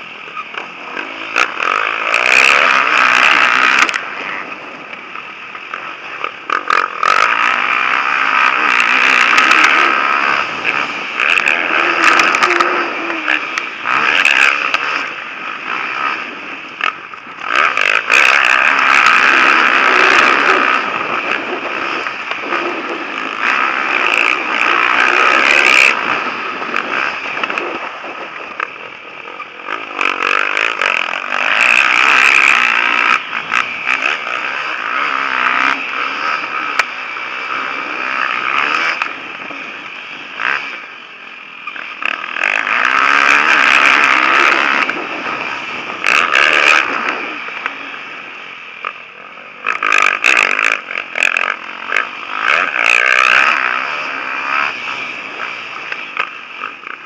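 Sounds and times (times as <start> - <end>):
motocross engines revving: 0.0 - 57.0.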